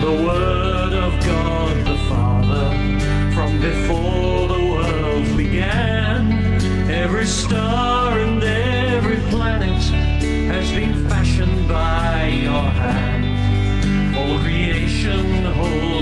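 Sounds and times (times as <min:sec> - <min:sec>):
instrumental accompaniment: 0:00.0 - 0:16.0
person singing: 0:00.0 - 0:16.0.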